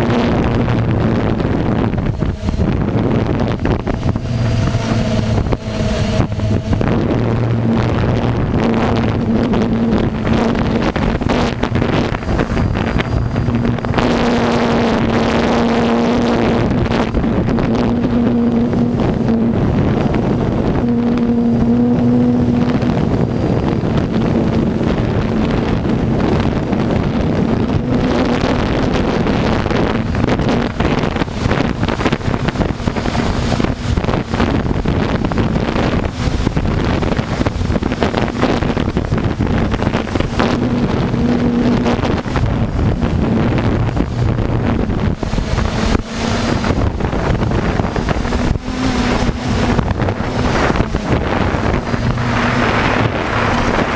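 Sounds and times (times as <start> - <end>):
harvest machinery droning: 0.0 - 53.9.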